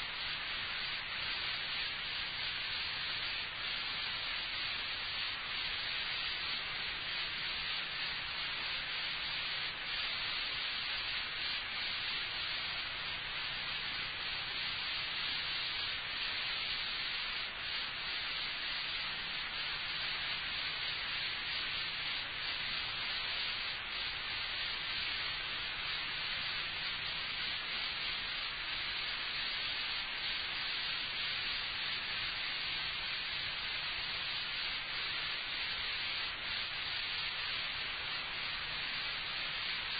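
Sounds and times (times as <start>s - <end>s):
tape hiss: 0.0s - 39.9s.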